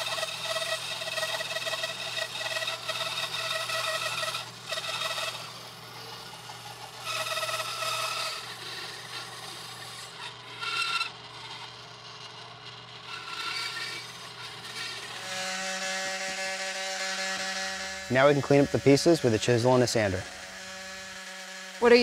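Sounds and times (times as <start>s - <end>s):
saw blade rasping through plastic: 0.0s - 19.2s
bandsaw motor hum: 0.0s - 22.0s.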